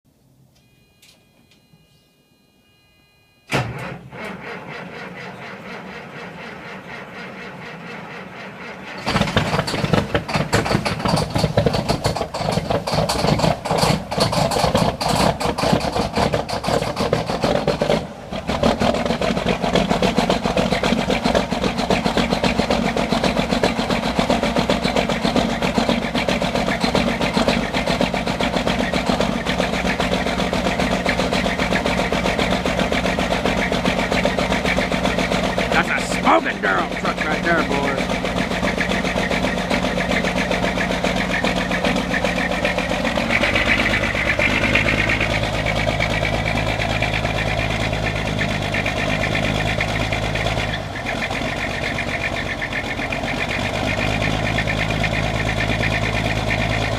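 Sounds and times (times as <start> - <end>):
diesel engine running rough: 3.5 - 56.9
starter motor cranking: 3.5 - 56.9.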